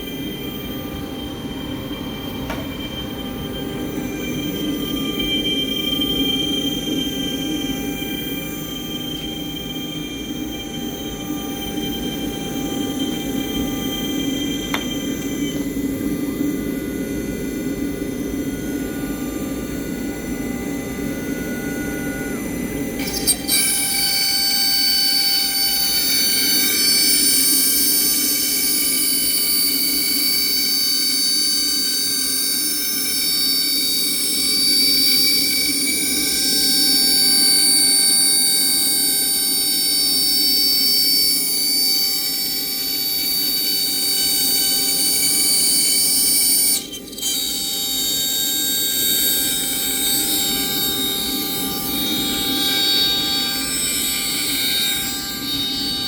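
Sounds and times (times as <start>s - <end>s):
router spindle high whine: 0.0s - 56.0s.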